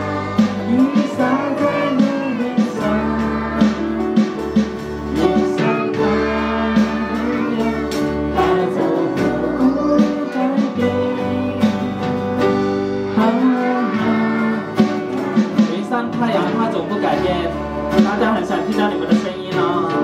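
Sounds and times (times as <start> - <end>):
guitar accompaniment: 0.0 - 20.0
person singing worship song: 0.0 - 20.0.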